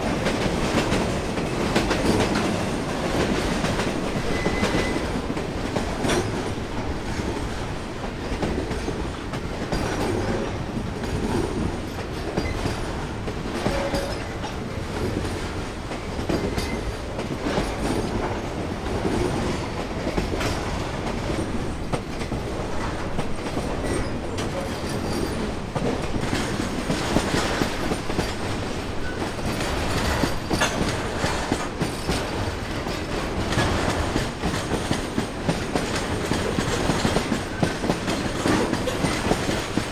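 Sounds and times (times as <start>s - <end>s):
train rumble: 0.0s - 39.9s
train wheels clicking on rail joints: 0.0s - 39.9s.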